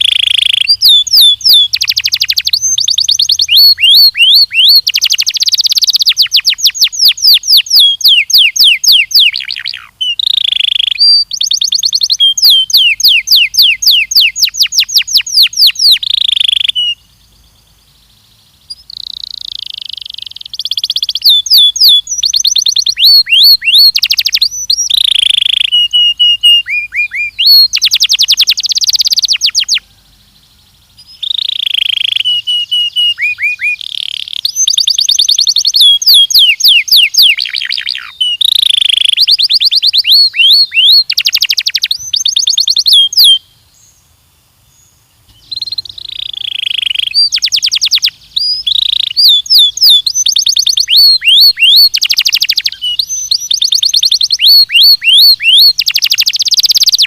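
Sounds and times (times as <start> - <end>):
canary singing trills: 0.0 - 44.0, 44.7 - 57.0.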